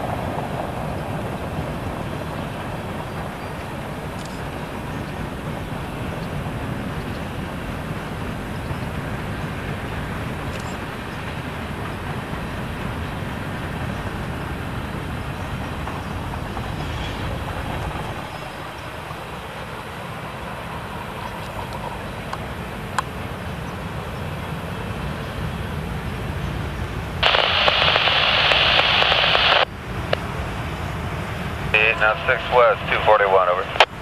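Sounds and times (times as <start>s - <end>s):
freight train wheels rumbling on rails: 0.0s - 27.4s.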